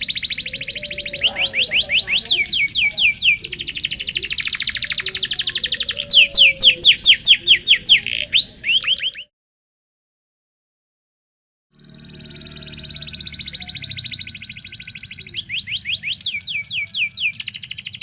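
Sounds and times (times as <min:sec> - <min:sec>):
canary singing trills: 0:00.0 - 0:09.3, 0:11.8 - 0:18.0.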